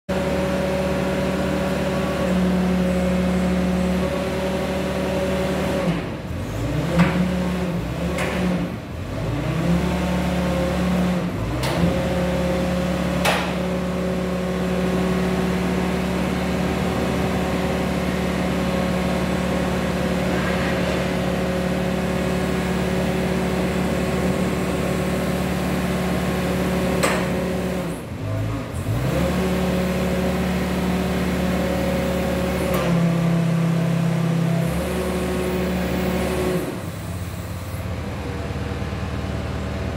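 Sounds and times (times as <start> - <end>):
engine running under hydraulic load: 0.1 - 39.9.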